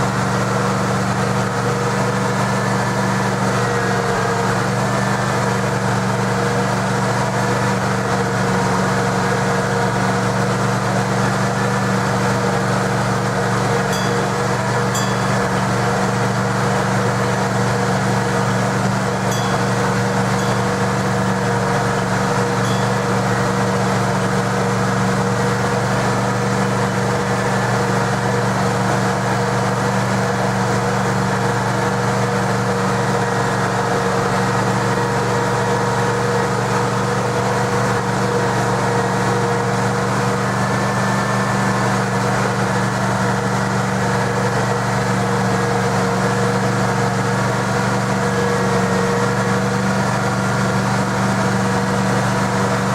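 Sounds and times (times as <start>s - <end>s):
gasoline engine humming steadily: 0.0s - 52.9s.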